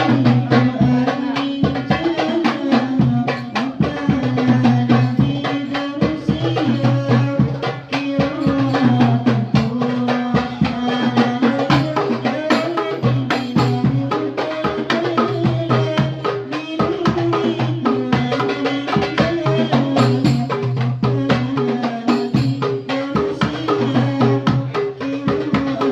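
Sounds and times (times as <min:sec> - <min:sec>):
darbuka hand drums playing fast rhythms: 0:00.0 - 0:25.9.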